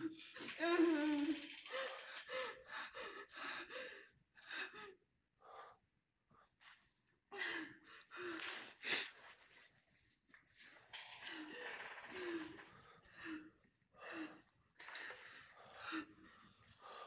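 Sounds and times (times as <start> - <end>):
person breathing hard: 0.1 - 5.8, 7.4 - 9.5, 11.2 - 17.0.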